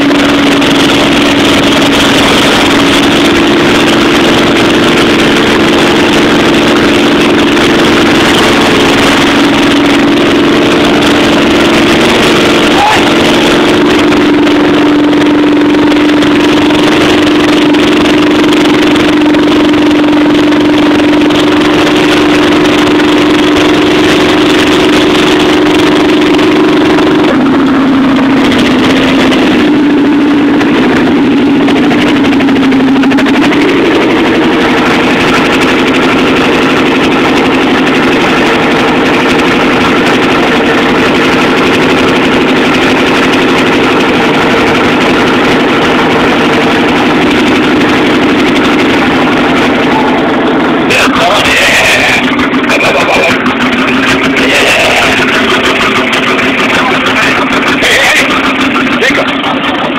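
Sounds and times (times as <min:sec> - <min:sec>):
engine idling loudly: 0:00.0 - 0:59.9.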